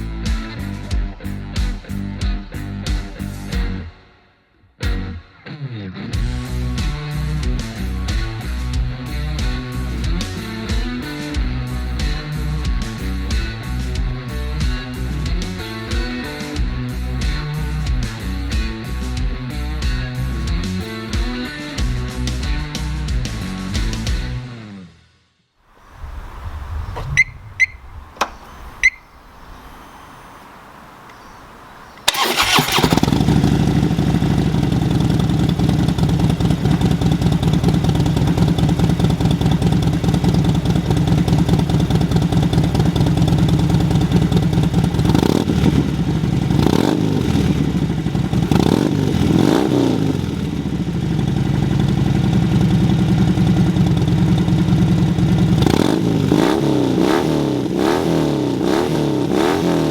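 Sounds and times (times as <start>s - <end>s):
motorcycle engine idling and revving: 6.2s - 24.3s, 26.2s - 59.9s.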